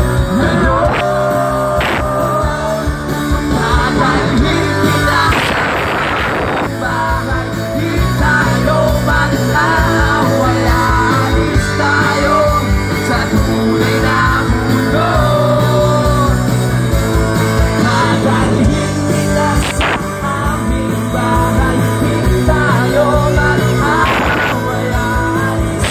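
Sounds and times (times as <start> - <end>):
person singing: 0.0 - 16.6, 17.5 - 25.9
drums: 0.0 - 25.9
electric guitars: 0.0 - 25.9.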